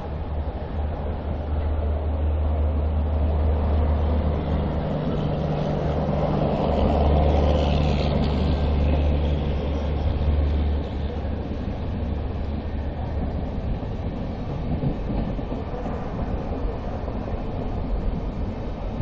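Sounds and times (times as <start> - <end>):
train passing on next track: 0.0 - 19.0
train wheels rumbling on track: 0.0 - 19.0.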